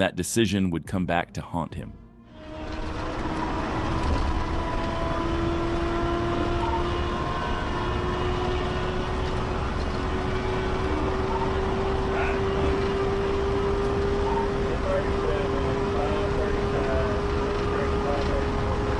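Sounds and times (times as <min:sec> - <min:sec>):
car engine tone climbing: 0:01.9 - 0:18.9
road and wind noise: 0:02.4 - 0:18.9.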